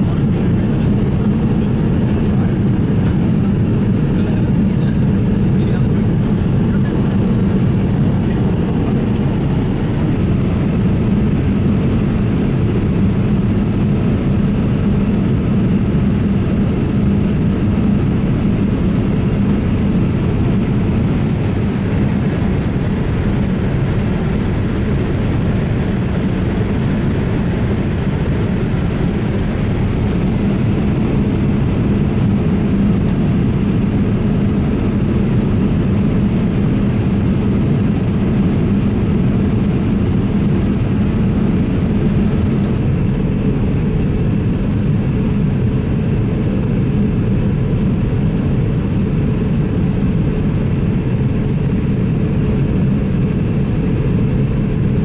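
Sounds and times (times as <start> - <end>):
airplane cabin noise: 0.0 - 55.0.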